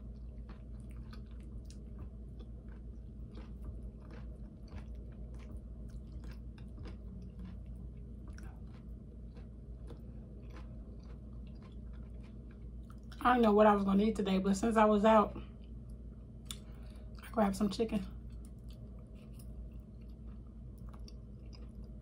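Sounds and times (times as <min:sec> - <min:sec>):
chewing with wet mouth clicks: 0:00.0 - 0:13.2, 0:15.5 - 0:17.3, 0:18.2 - 0:22.0
steady low hum: 0:00.0 - 0:22.0.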